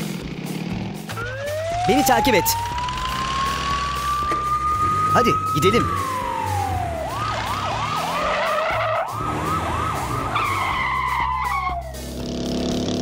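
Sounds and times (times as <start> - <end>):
police siren yelping: 1.2 - 12.0.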